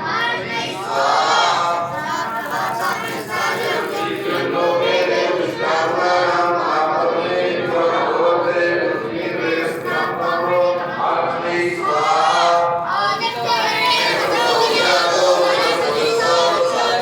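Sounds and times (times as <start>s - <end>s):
voices chanting together: 0.0s - 17.0s.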